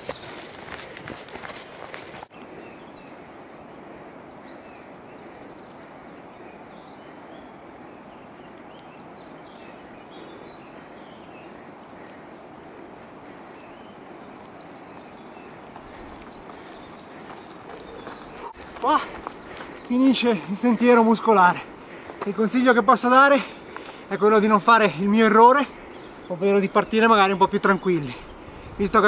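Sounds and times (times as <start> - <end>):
small birds chirping: 2.3 - 29.0.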